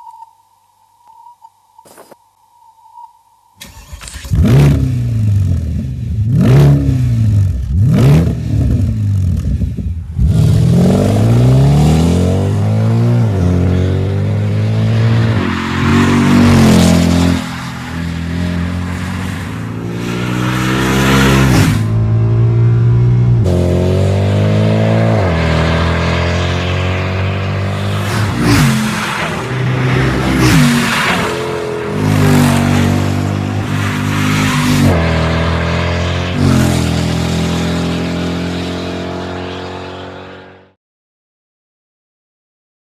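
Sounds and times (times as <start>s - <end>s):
loud car engine accelerating: 3.7s - 40.8s.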